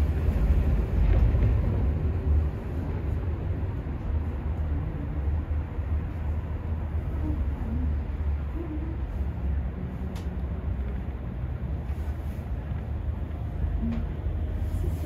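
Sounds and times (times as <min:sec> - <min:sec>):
aerial tram cabin rumbling: 0:00.0 - 0:15.0.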